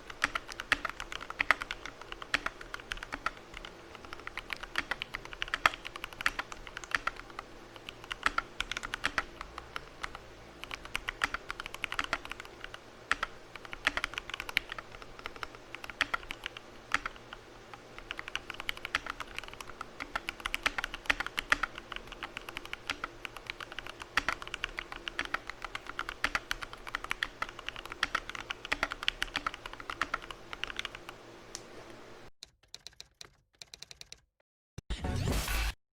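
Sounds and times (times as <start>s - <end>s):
mechanical keyboard typing: 0.0s - 34.3s.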